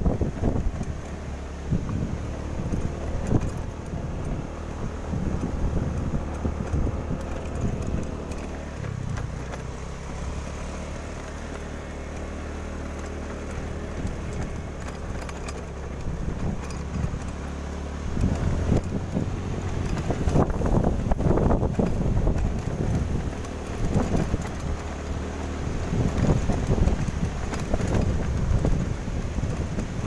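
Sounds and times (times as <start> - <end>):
vehicle engine running: 0.0 - 30.0
wind buffeting microphone: 0.0 - 30.0.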